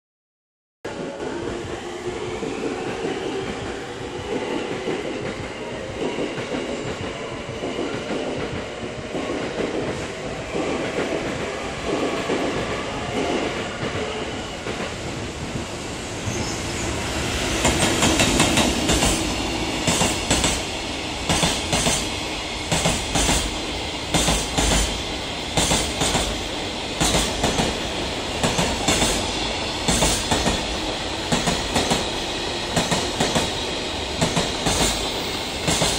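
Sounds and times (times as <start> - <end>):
train wheels clickety-clack: 0.9 - 16.0, 17.4 - 35.9
electric locomotive passing: 0.9 - 35.9.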